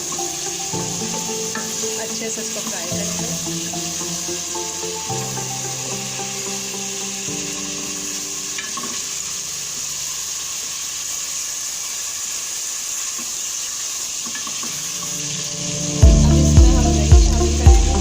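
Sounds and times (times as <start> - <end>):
chicken frying in oil: 0.0 - 17.6.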